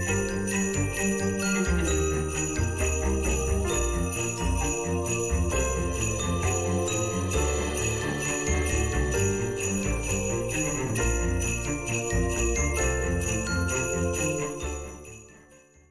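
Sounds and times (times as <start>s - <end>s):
background music: 0.0s - 15.9s
sleigh bells jingling over music: 0.0s - 15.9s.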